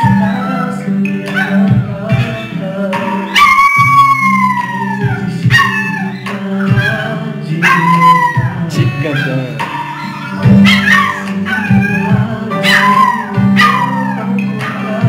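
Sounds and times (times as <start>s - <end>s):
dog howling: 0.0s - 15.0s
music from a stereo: 0.0s - 15.0s.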